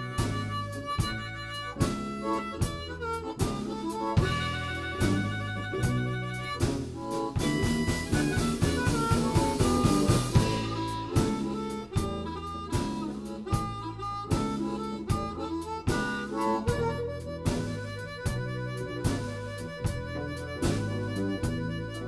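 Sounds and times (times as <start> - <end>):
blues band playing: 0.0 - 22.0
harmonica: 0.0 - 22.0.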